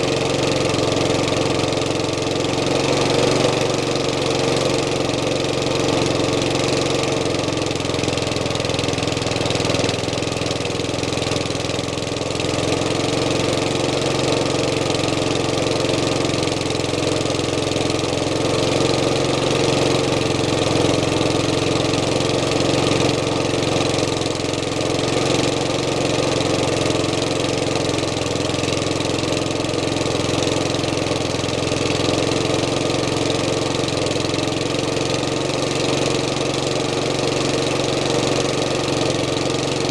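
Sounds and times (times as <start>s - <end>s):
lawnmower engine running: 0.0s - 39.9s.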